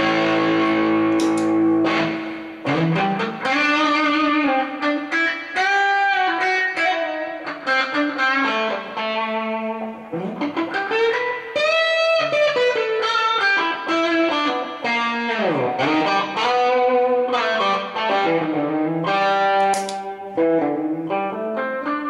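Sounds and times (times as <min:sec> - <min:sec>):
electric guitar notes and chords: 0:00.0 - 0:22.0.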